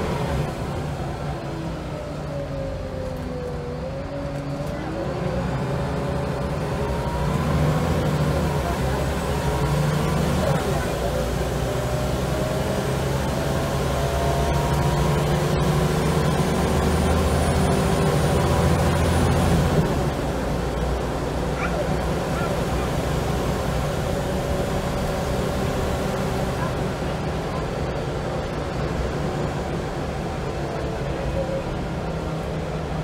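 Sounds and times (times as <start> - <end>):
bus engine pulling: 0.0 - 33.0.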